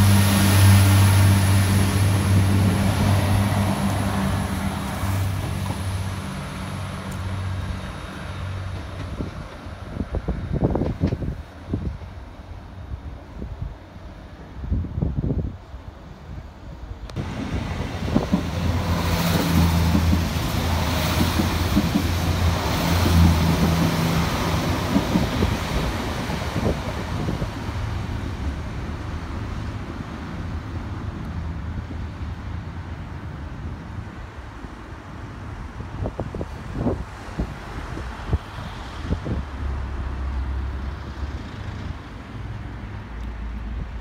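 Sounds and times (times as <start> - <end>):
train wheel and track noise: 0.0 - 44.0.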